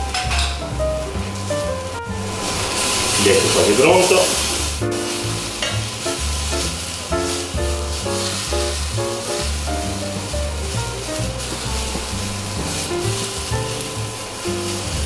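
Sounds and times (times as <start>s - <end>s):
background music with bass line: 0.0s - 15.0s
meat sizzling in a frying pan: 0.2s - 15.0s.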